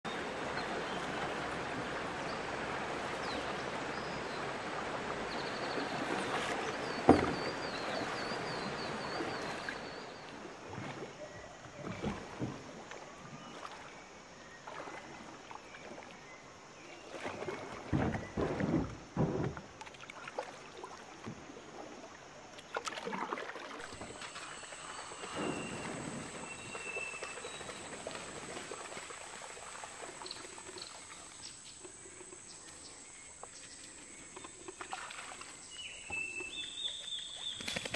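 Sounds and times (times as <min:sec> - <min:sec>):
kayak paddle splashing: 0:00.0 - 0:37.9.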